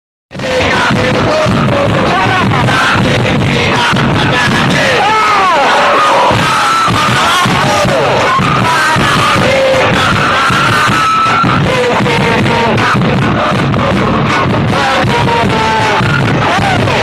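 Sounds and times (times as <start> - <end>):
crowd singing a chant: 0.3 - 17.0
regular drum beat: 0.4 - 5.1, 6.3 - 17.0.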